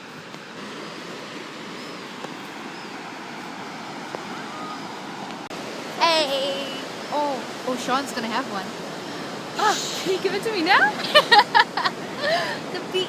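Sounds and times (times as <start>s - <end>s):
gentle surf breaking on beach: 0.0s - 13.0s.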